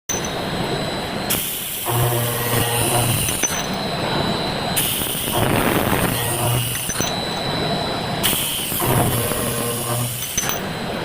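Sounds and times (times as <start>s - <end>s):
circular saw machine running: 0.1s - 11.0s.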